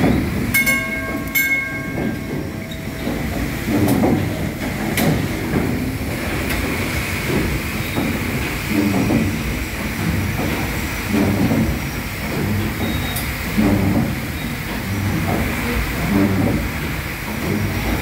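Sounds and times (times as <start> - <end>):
steam engine rhythmic churning: 0.0 - 18.0.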